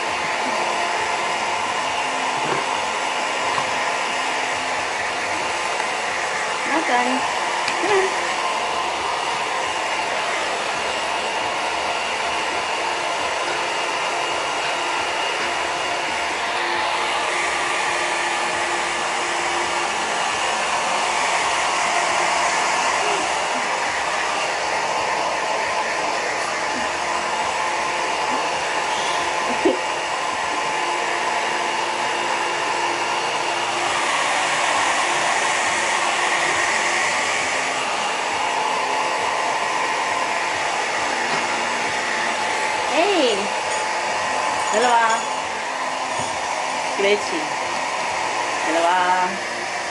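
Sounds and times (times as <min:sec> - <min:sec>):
hairdryer blowing: 0:00.0 - 0:49.9.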